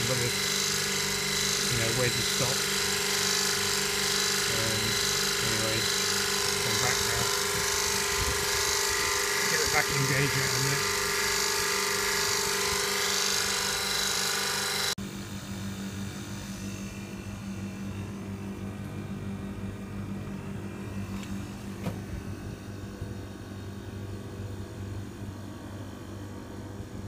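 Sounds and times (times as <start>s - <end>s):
condenser fan air rush: 0.0s - 27.0s
low hum of running unit: 0.0s - 27.0s.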